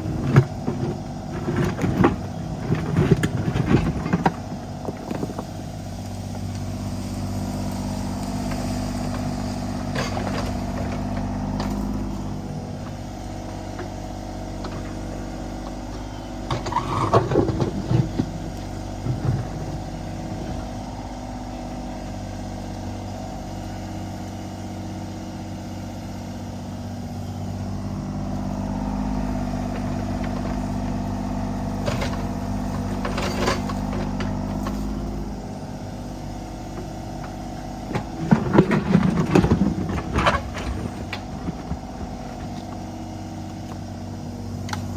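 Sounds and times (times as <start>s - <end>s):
clunks and knocks: 0.0s - 21.3s, 28.5s - 43.9s
excavator diesel engine running: 0.0s - 44.9s.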